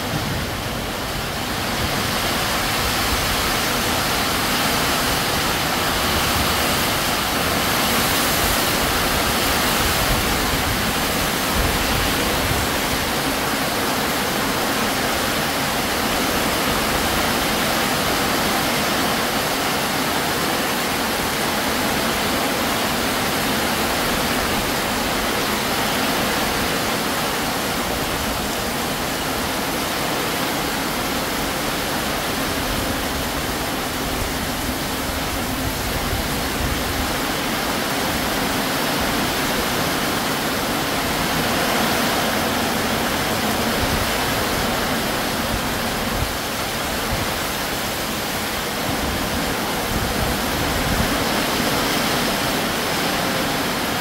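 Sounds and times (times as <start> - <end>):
heavy rain on metal roof: 0.0 - 54.0
water streaming off roof: 0.0 - 54.0.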